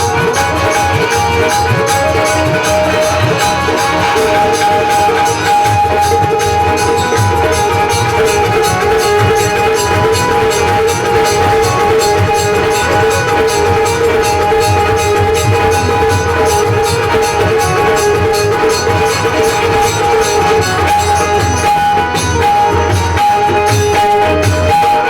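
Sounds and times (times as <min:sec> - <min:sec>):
drum beat: 0:00.0 - 0:25.0
rapid jingling percussion: 0:00.0 - 0:25.0
sustained held notes: 0:00.0 - 0:25.0.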